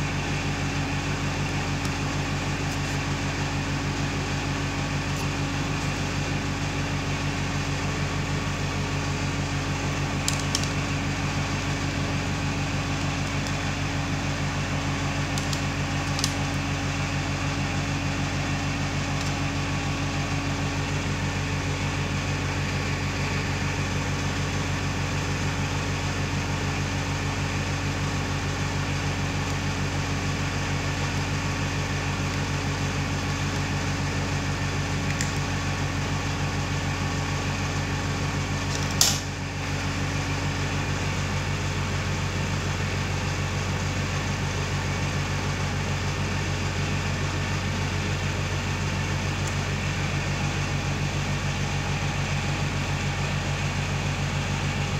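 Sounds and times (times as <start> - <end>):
machinery humming with fast pulse: 0.0 - 54.9.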